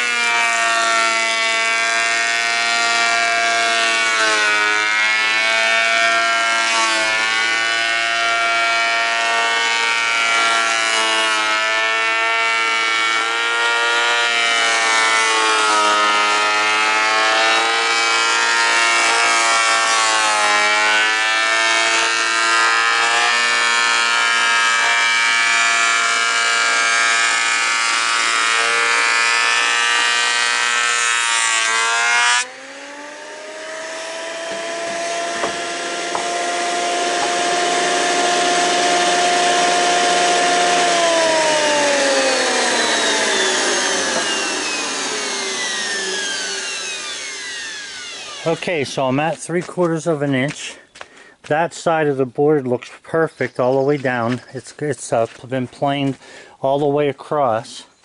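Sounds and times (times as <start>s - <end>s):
thickness planer motor whining: 0.0s - 50.0s.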